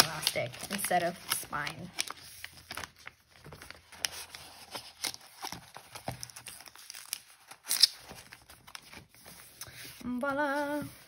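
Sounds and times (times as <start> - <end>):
paper and plastic sheet rustling: 0.0 - 11.0.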